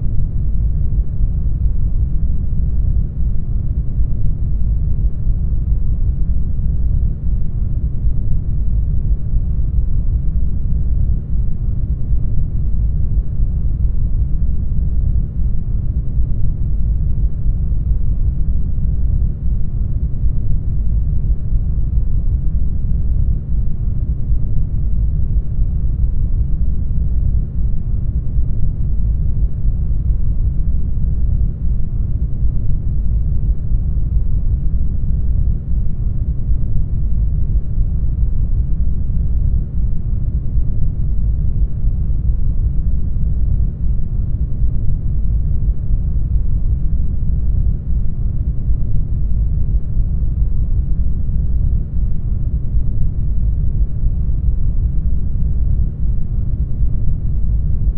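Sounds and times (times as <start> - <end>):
deep rumbling brown noise: 0.0 - 57.9.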